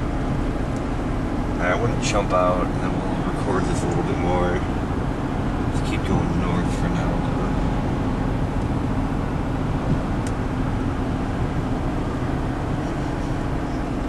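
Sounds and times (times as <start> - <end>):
car interior road noise: 0.0 - 14.0.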